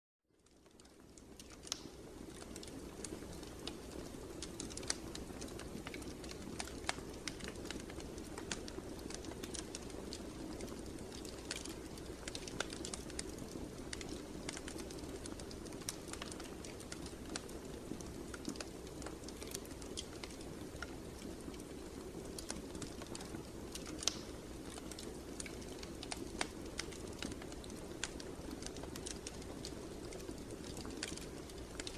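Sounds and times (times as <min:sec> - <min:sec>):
wood fire crackling and popping: 0:00.4 - 0:31.9.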